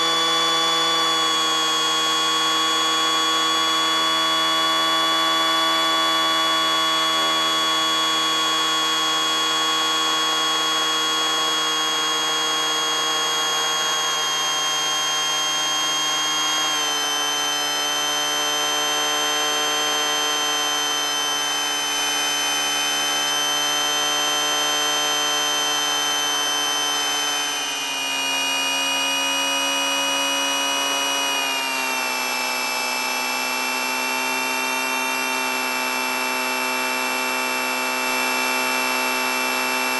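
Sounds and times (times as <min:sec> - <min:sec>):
aircraft engine buzzing drone: 0:00.0 - 0:39.9.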